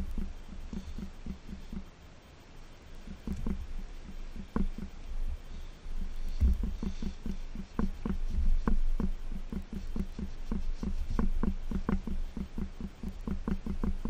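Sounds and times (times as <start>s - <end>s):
ticking strokes on metal pipe: 0.0s - 2.0s, 2.7s - 14.0s.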